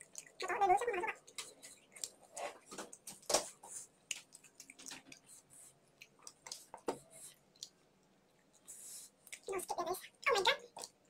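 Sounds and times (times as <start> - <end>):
chewing and mouth smacks: 0.0 - 11.0.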